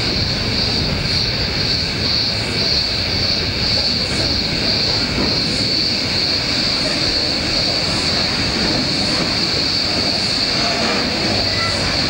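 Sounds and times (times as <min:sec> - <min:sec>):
cicada chorus drone: 0:00.0 - 0:12.0
train wagons rumbling past: 0:00.0 - 0:12.0.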